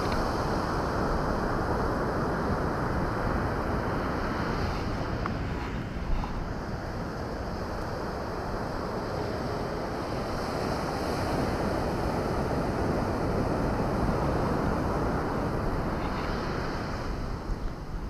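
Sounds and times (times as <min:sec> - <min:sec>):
surf on beach: 0:00.0 - 0:18.0
wind blowing over microphone: 0:00.0 - 0:18.0.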